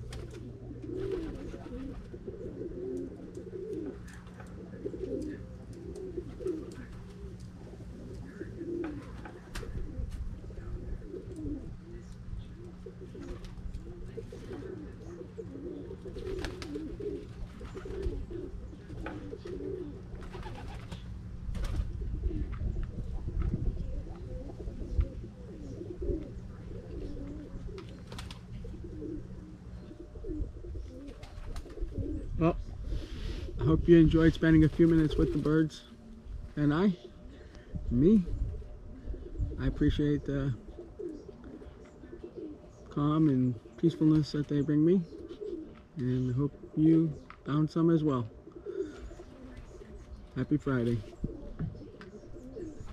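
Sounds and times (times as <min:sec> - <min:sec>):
low hum: 0:00.0 - 0:52.9
pigeons cooing: 0:00.0 - 0:52.9.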